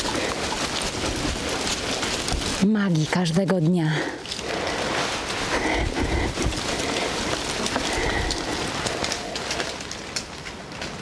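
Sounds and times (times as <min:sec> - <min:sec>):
dry leaves rustling in wind: 0:00.0 - 0:11.0.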